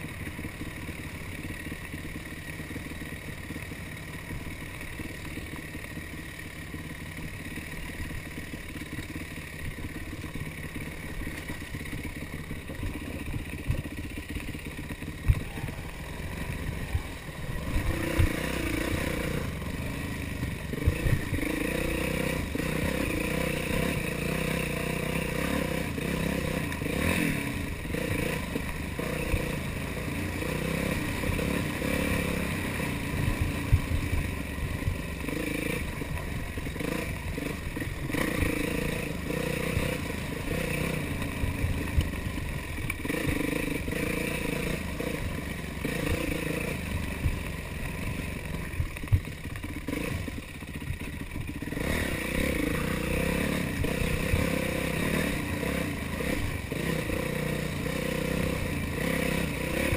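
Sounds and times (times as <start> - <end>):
bike rattling: 0.0 - 59.9
dirt bike engine revving: 0.0 - 59.9.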